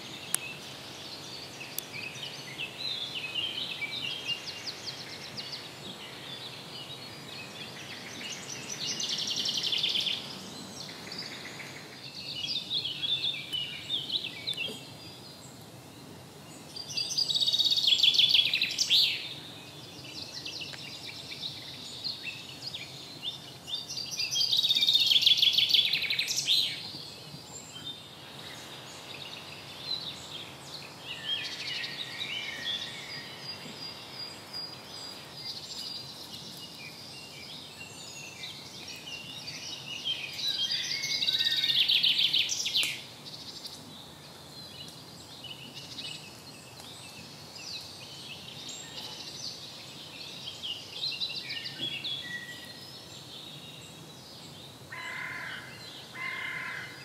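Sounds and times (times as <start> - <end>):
soft bird chirps: 0.0 - 54.8
faint outdoor background: 0.0 - 57.0
songbirds trilling: 0.0 - 57.0.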